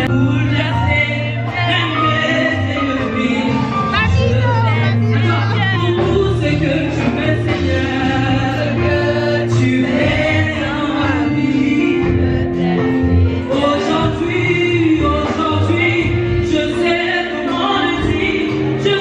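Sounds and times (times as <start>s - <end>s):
group singing gospel music: 0.0s - 19.0s
steady bass line: 0.0s - 19.0s.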